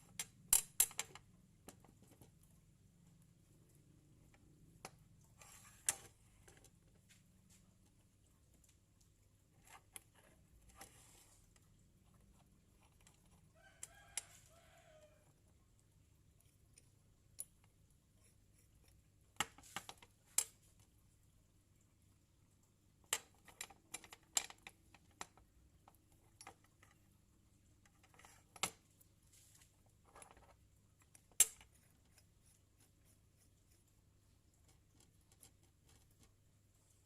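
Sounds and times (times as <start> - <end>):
small metal parts and tools clicking: 0.0 - 6.7, 8.5 - 20.9, 23.0 - 34.0.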